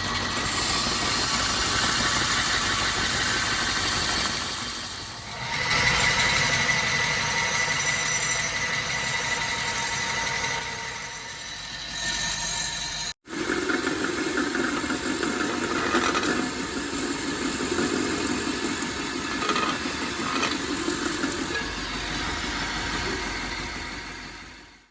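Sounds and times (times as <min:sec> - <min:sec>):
belt grinder motor running: 0:00.0 - 0:24.7.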